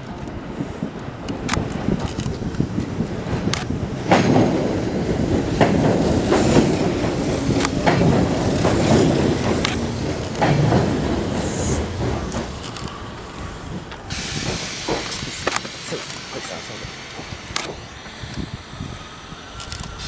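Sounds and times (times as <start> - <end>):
train rumbling over rails: 0.0 - 20.0.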